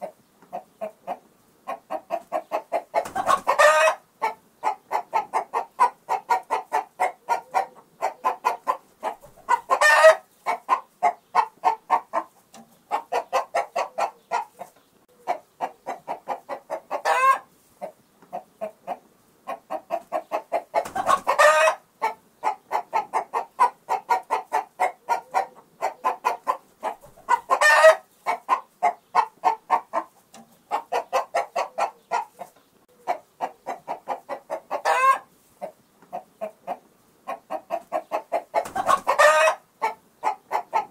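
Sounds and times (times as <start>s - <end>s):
chickens clucking: 0.0s - 40.9s
chicken squawking: 0.5s - 17.5s, 18.4s - 30.1s, 30.7s - 35.3s, 36.2s - 40.9s.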